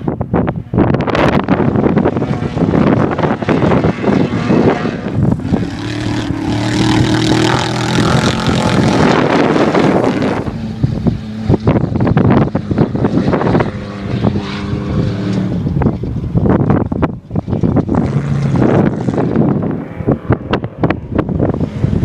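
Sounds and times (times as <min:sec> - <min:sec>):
engine crackle: 0:00.0 - 0:22.0
race vehicle engine running loud: 0:00.0 - 0:22.0.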